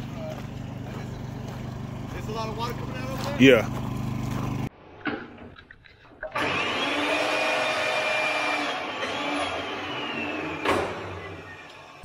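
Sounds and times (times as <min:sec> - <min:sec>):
rebar bender motor whine: 0:00.0 - 0:04.7, 0:06.3 - 0:12.0.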